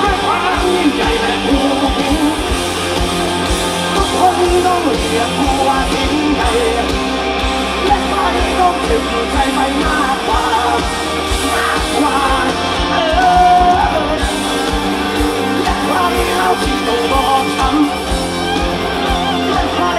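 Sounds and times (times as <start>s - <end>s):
person singing: 0.0s - 2.6s, 3.7s - 7.1s, 7.8s - 18.2s, 18.8s - 19.9s
live rock band playing: 0.0s - 19.9s.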